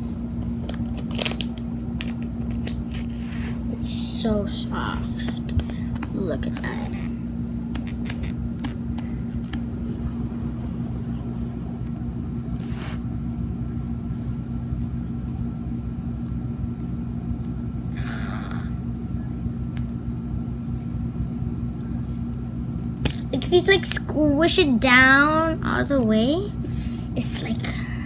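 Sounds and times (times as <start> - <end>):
steady low two-tone hum: 0.0 - 28.0.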